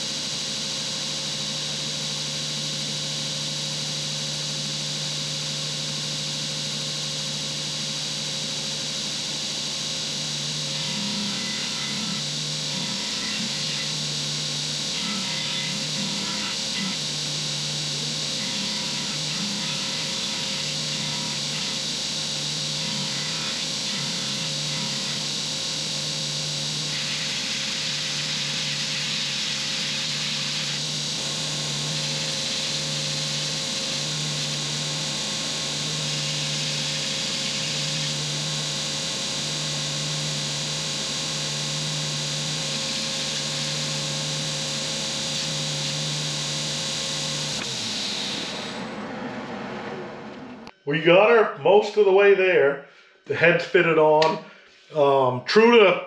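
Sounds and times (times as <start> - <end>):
belt grinder motor hum: 0.0 - 50.7.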